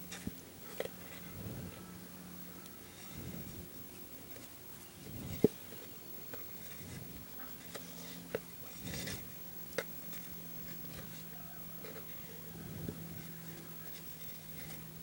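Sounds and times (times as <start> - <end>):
fingers rubbing thread: 2.6 - 15.0.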